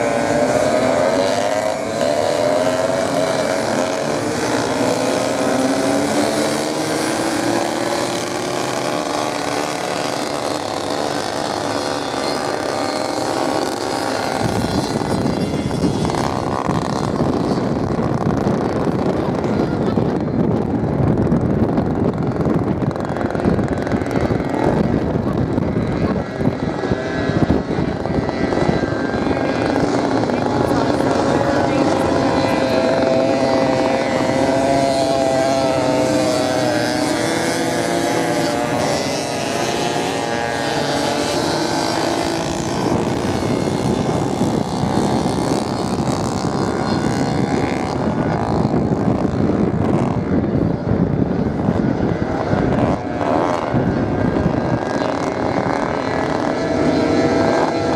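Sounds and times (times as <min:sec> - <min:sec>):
motorcycle engines revving: 0:00.0 - 0:57.9
wind buffeting microphone: 0:00.0 - 0:57.9.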